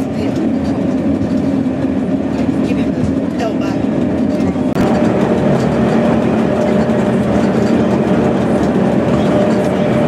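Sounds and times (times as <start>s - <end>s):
railcar running rumble: 0.0s - 10.0s
steady whine: 0.0s - 10.0s.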